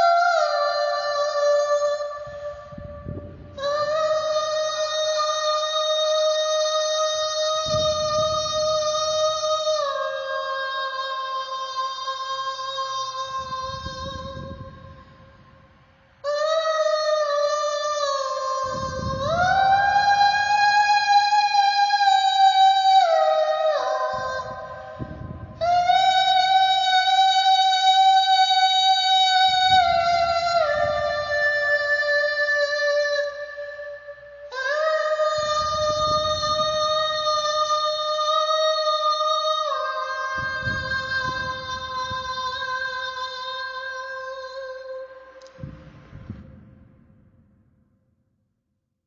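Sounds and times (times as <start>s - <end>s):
high voice singing long notes: 0.0s - 46.6s.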